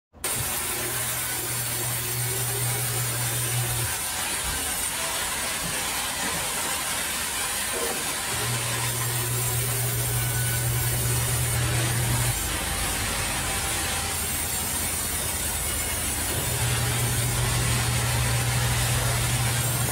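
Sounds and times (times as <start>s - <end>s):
band saw cutting log: 0.2s - 19.9s.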